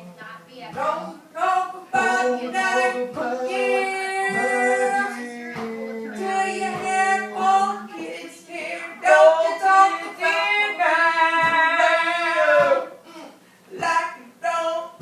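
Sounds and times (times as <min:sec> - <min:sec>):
woman singing unaccompanied: 0:00.0 - 0:12.9.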